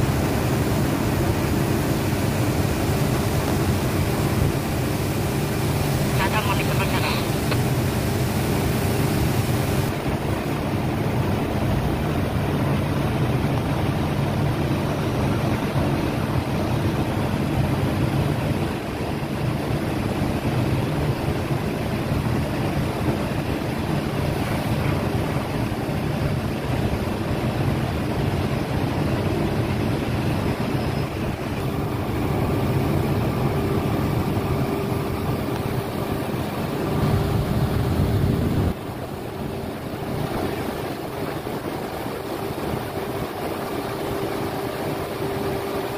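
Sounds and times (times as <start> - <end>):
engine running steadily: 0.0 - 45.9
rush of wind: 0.0 - 45.9
water-like noise: 0.0 - 45.9.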